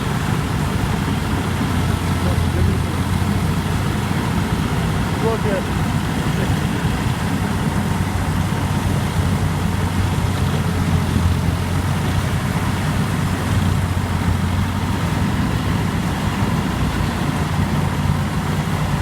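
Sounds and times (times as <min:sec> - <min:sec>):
combine harvester engine humming: 0:00.0 - 0:19.0.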